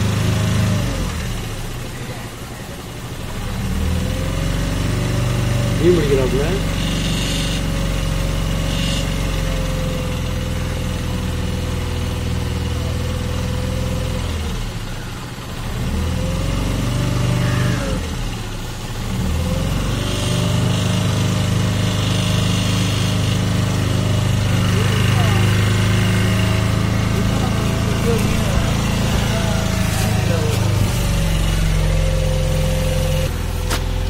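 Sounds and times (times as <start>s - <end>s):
motorboat engine running: 0.0s - 34.0s.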